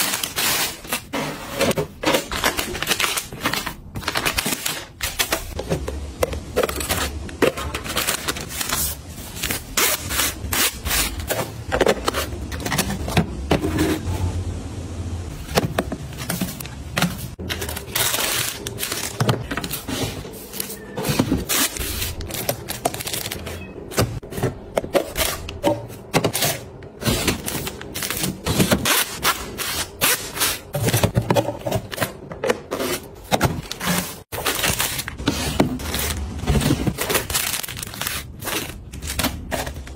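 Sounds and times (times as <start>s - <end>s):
items scraping and rubbing: 0.0s - 14.4s, 15.3s - 39.9s.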